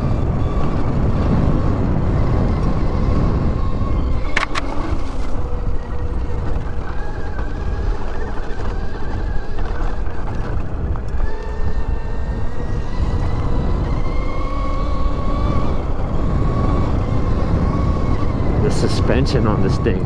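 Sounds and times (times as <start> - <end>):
electric motor whining: 0.0 - 20.0
wind noise on microphone: 0.0 - 20.0.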